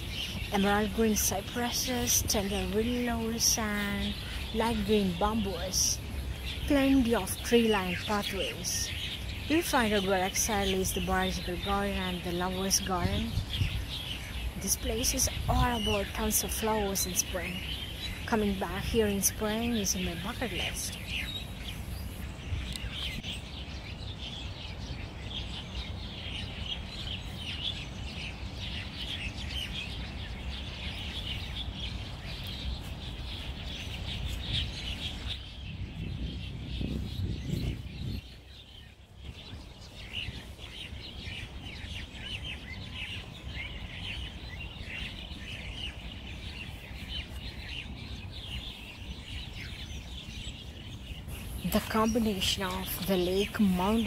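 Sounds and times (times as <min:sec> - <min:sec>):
small birds twittering: 0:00.0 - 0:54.0.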